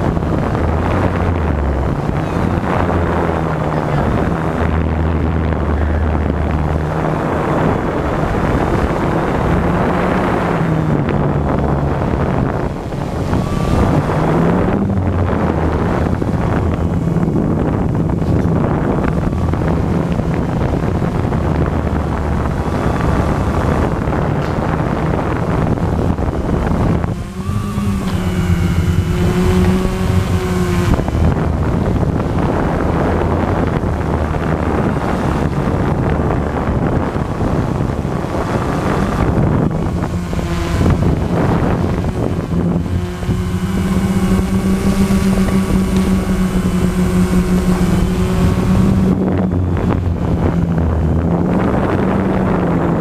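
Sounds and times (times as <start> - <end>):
drone motors buzzing: 0.0 - 53.0
wind noise on microphone: 0.0 - 53.0.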